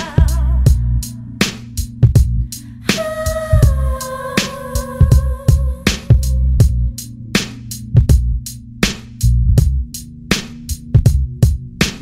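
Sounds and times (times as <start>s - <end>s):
deep sustained bass line: 0.0s - 11.8s.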